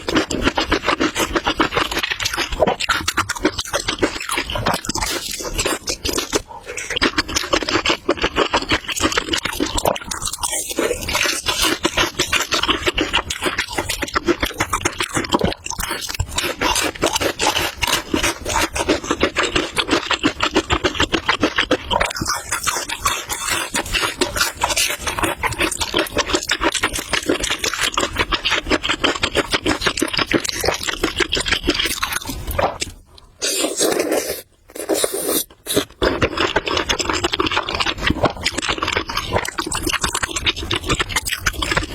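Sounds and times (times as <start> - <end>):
slurping and chewing noodles: 0.0 - 41.9.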